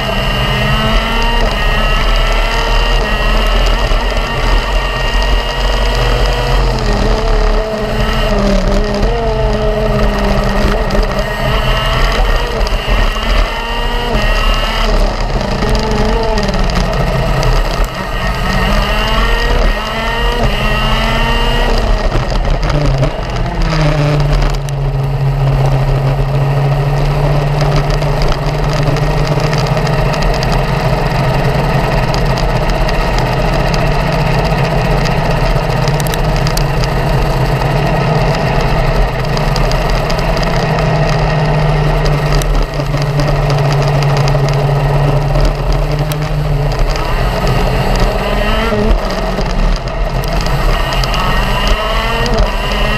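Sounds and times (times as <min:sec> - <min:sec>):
kart engine revving: 0:00.0 - 0:52.9.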